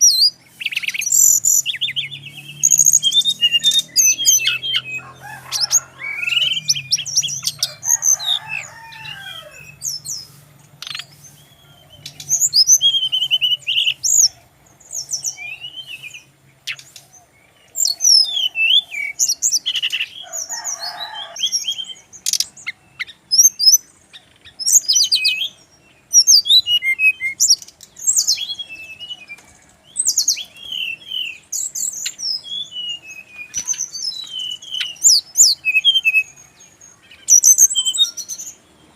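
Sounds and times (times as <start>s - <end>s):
bird singing whistled trills: 0.0s - 38.6s.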